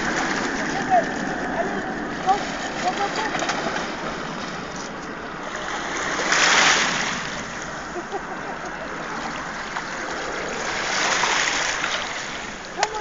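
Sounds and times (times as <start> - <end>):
sea water lapping: 0.0 - 13.0
wind on microphone: 0.0 - 13.0.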